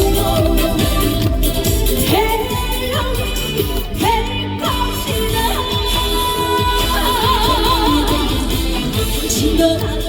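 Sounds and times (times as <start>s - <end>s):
song backing track over pa: 0.0s - 10.0s.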